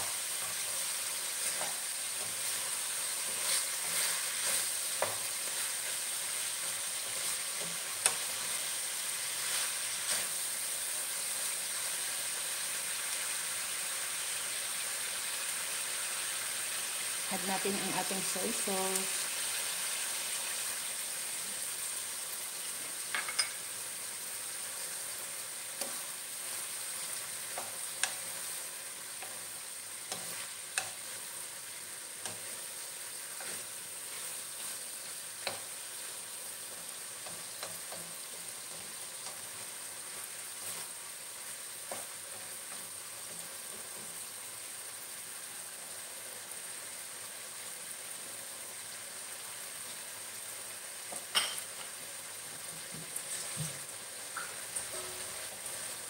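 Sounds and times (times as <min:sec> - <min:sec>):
meat sizzling in a wok: 0:00.0 - 0:56.0.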